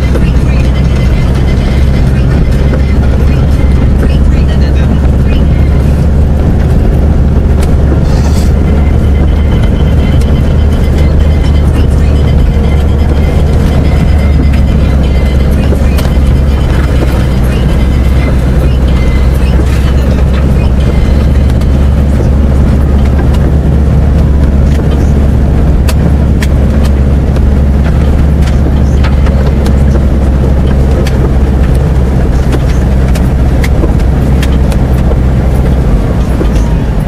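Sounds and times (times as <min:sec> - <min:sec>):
vehicle engine rumble: 0:00.0 - 0:37.0.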